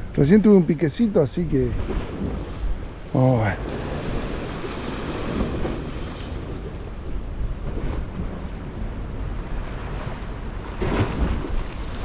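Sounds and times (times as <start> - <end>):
wind buffeting microphone: 0.0 - 12.0
surf breaking on shore: 0.5 - 12.0.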